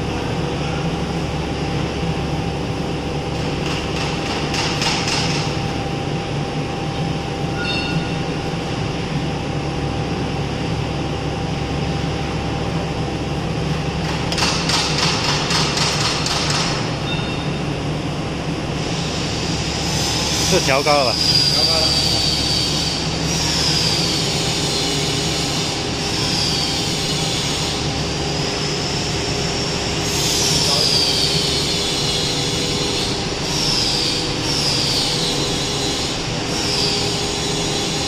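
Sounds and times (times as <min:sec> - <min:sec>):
constant machine tones: 0:00.0 - 0:38.0
machinery hum and rumble: 0:00.0 - 0:38.0.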